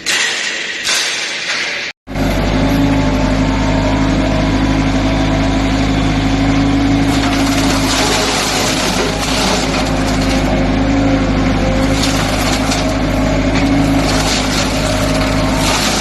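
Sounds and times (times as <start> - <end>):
excavator engine running: 2.1 - 16.0.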